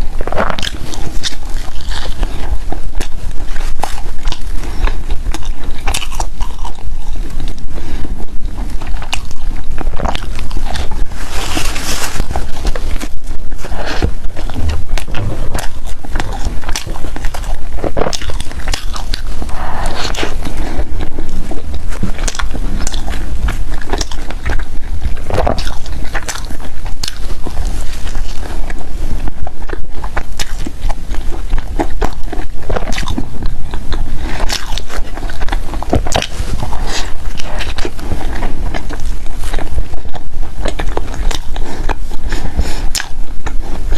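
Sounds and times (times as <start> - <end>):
person biting and chewing food: 0.0 - 43.9
wet mouth clicks: 0.0 - 43.9.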